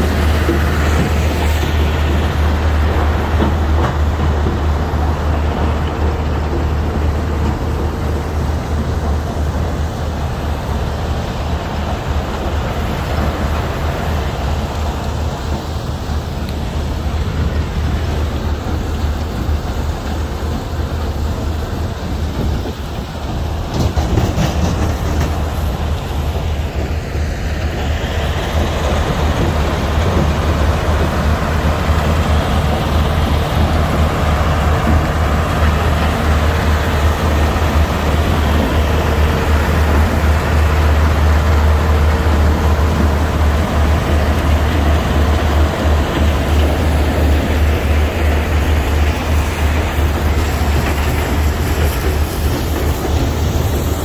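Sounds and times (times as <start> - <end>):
low engine drone: 0.0 - 54.0.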